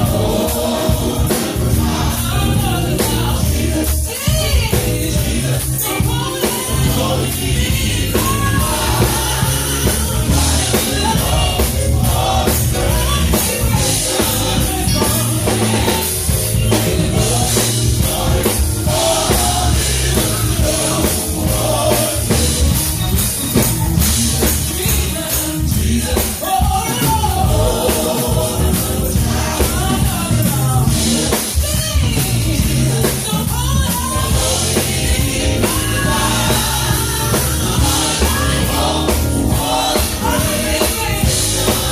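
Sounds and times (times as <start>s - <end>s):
person singing lead vocal: 0.0s - 23.0s, 24.0s - 41.9s
gospel band with drums and bass: 0.0s - 41.9s.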